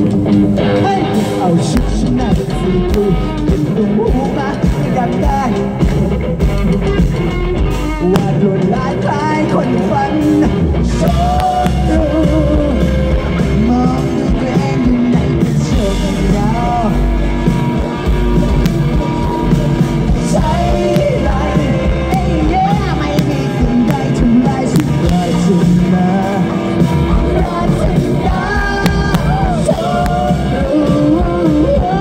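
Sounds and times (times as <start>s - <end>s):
person singing: 0.0s - 6.5s, 7.7s - 32.0s
live rock band: 0.0s - 32.0s.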